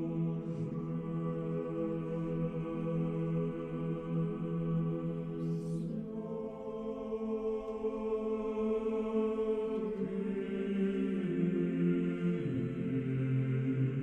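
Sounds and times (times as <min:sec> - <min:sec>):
choral chant: 0:00.0 - 0:14.0.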